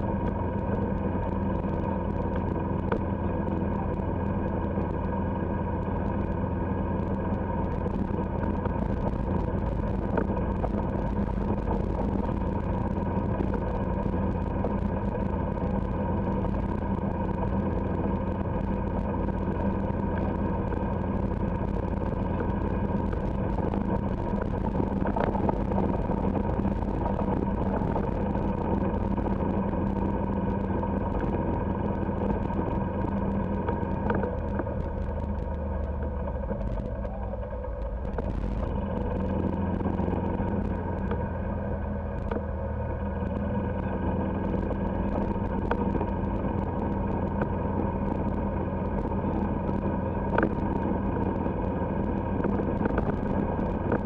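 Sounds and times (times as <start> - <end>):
golf cart motor humming: 0.0 - 54.0.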